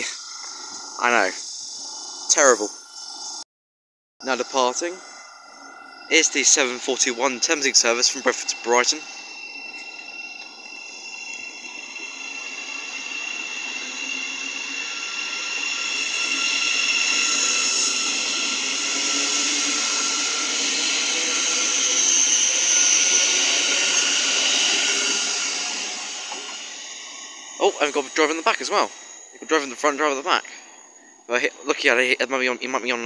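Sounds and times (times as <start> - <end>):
train electric whine: 0.0 - 3.4, 4.2 - 33.0
wheel-on-rail noise: 4.3 - 31.8.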